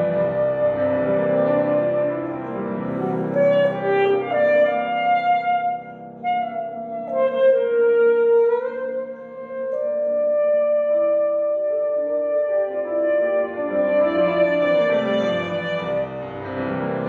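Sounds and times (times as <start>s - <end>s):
piano accompaniment: 0.0s - 17.0s
alto saxophone melody: 2.9s - 17.0s.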